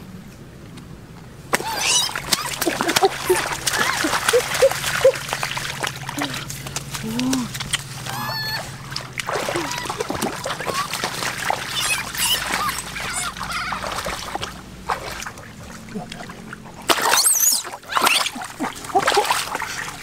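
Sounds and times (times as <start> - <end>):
water splashing and trickling: 1.5 - 20.0.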